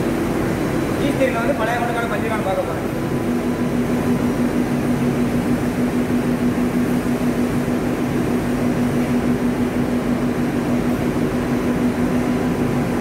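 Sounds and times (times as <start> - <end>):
machinery and fans drone: 0.0 - 13.0.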